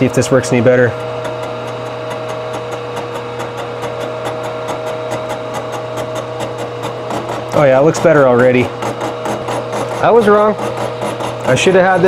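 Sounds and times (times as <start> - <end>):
fast even cutter ticking: 0.0 - 12.0
milling machine hum and whine: 0.0 - 12.0.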